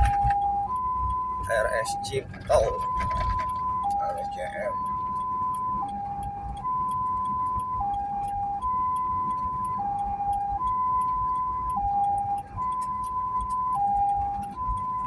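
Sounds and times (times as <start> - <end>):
engine and road noise: 0.0 - 15.0
two-tone ambulance siren: 0.0 - 15.0.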